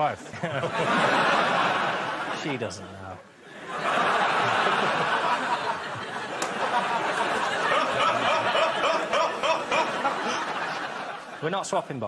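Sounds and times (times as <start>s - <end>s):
audience laughing: 0.3s - 11.5s.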